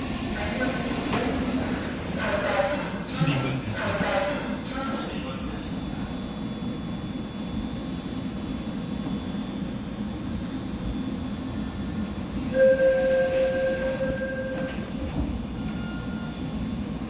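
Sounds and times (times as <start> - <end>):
loud steady tone: 0.0 - 17.0
subway train rumble: 0.0 - 17.0.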